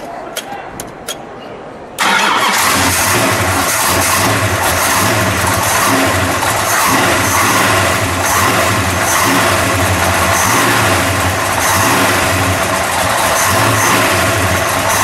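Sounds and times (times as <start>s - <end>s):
car engine running: 2.4s - 15.0s.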